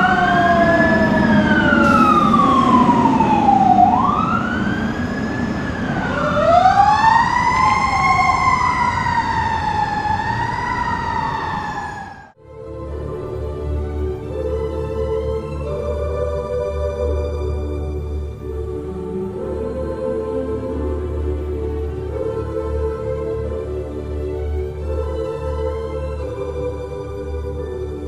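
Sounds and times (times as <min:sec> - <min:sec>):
orchestral music: 0:00.0 - 0:09.9, 0:12.3 - 0:28.0
emergency sirens wailing: 0:00.0 - 0:28.0.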